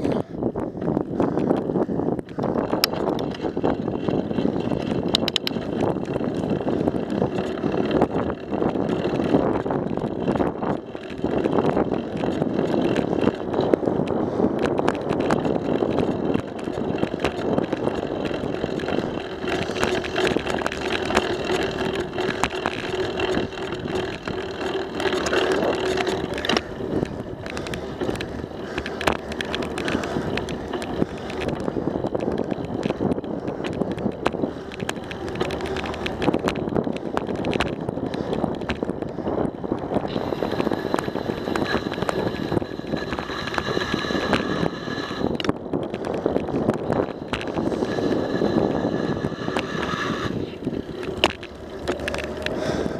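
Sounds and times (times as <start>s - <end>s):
bicycle rattling clicks: 0.0s - 52.9s
bicycle tyre and wind noise: 0.0s - 52.9s.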